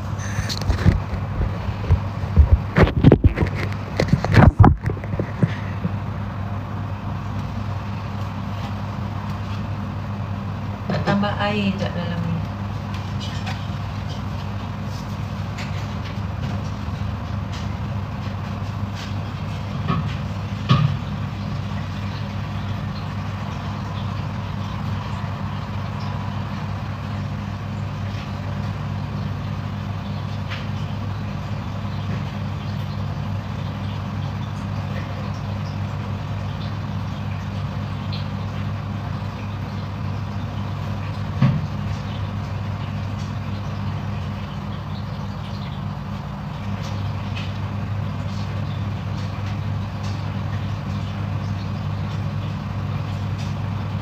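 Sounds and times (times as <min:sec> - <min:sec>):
steady low machine hum: 0:00.0 - 0:54.0.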